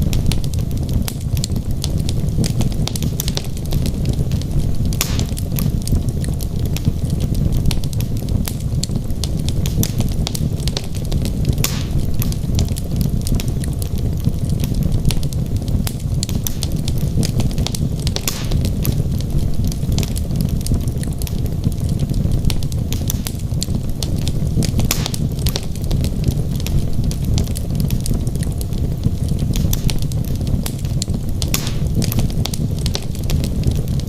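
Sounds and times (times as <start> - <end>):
fire crackles and pops: 0.0 - 34.0
low rumble of burning logs: 0.0 - 34.0.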